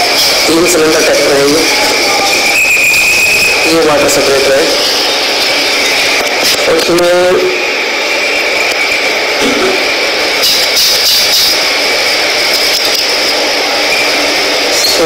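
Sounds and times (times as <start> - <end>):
high steady whine: 0.0 - 15.0
machine whirring hiss: 0.0 - 15.0.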